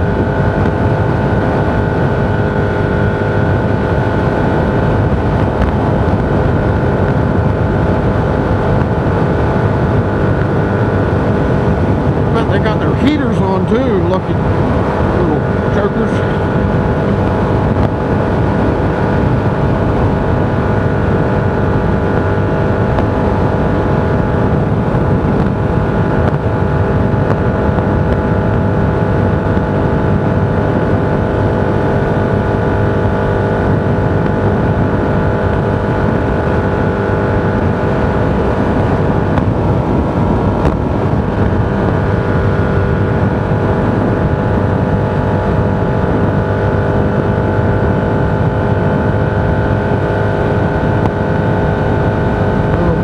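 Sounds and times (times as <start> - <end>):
steady hum: 0.0 - 53.0
vehicle road noise drone: 0.0 - 53.0.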